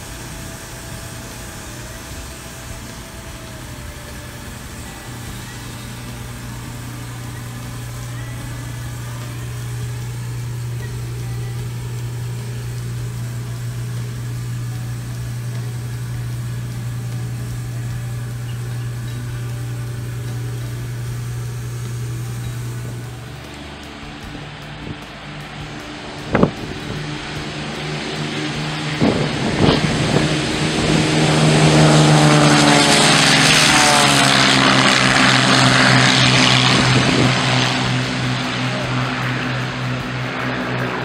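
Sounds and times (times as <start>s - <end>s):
engine droning: 0.0s - 41.0s.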